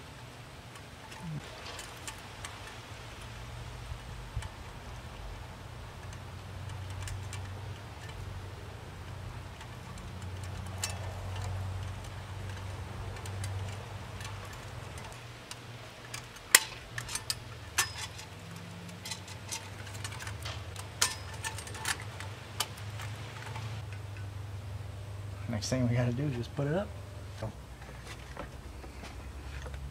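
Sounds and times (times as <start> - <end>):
steady low hum: 0.0 - 29.9
clicks and taps of wires and metal: 0.1 - 24.3.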